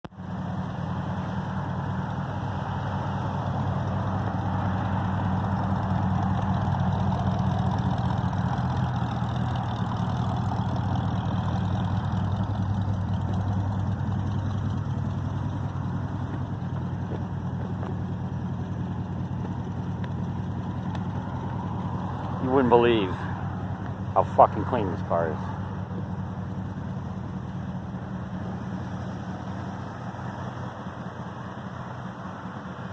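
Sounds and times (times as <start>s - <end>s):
car engine rumbling: 0.0s - 32.9s.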